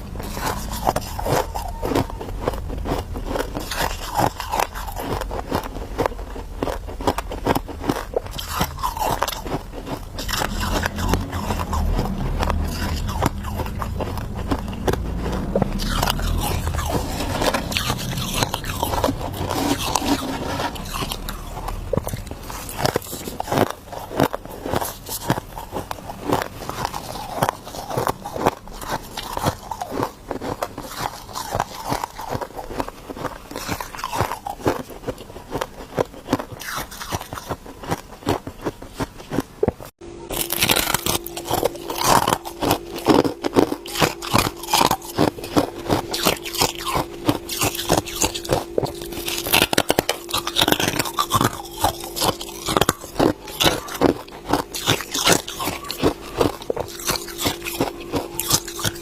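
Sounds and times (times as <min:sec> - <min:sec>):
low hum: 0:00.0 - 0:34.6, 0:40.0 - 0:59.0
ice being chewed: 0:00.0 - 0:59.0.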